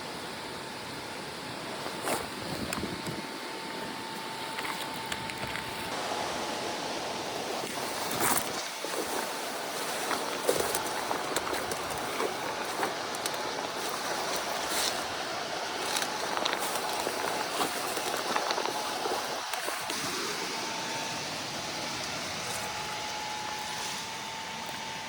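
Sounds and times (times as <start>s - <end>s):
rainwater runoff rushing: 0.0s - 24.8s.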